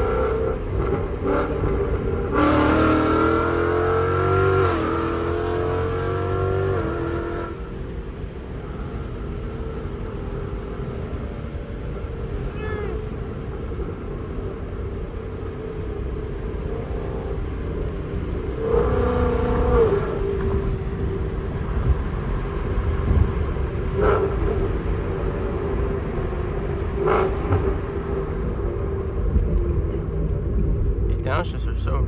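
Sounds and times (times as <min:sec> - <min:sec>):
engine rev blips: 0:00.0 - 0:29.8
car engine revving: 0:00.0 - 0:32.0.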